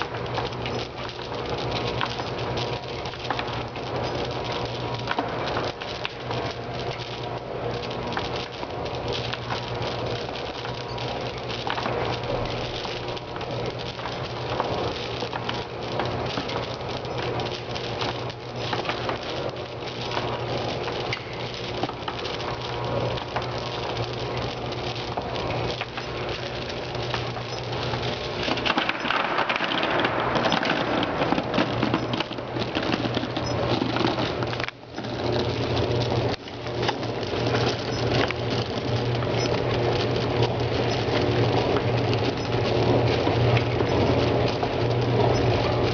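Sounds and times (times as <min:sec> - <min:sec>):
machine humming: 0:00.0 - 0:45.9
pellets pattering into a box: 0:08.0 - 0:45.9.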